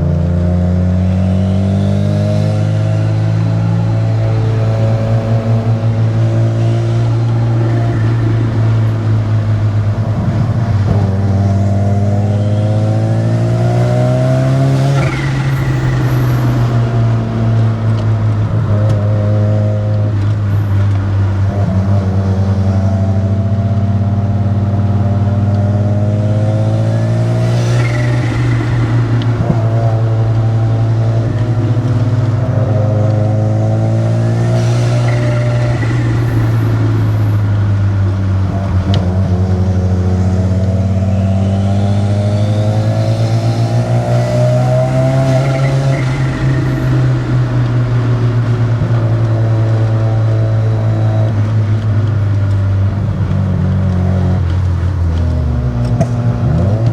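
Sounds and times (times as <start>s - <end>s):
rotary car engine revving: 0.0s - 56.9s.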